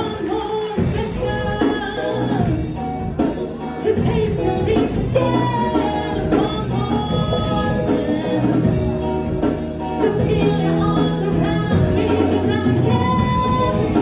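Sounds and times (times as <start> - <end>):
live band with singing: 0.0 - 14.0.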